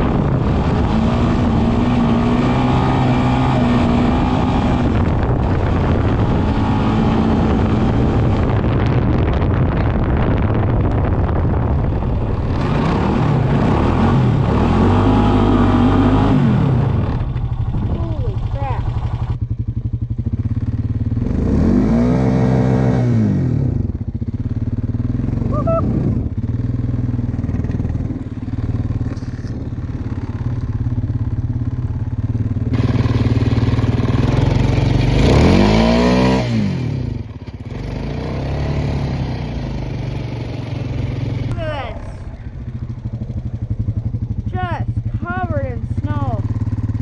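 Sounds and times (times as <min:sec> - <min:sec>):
atv engine revving: 0:00.0 - 0:47.0.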